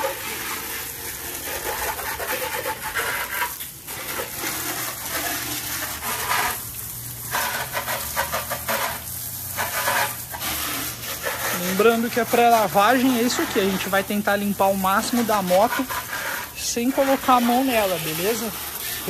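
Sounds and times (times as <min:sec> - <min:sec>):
hose water spraying: 0:00.0 - 0:19.0.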